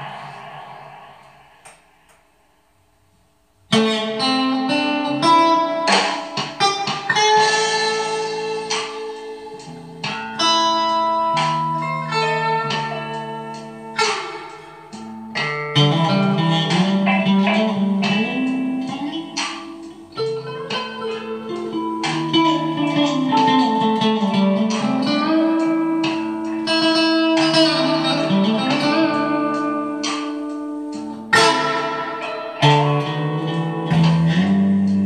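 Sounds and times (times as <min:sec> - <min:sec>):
solo electric guitar: 0:03.7 - 0:35.0.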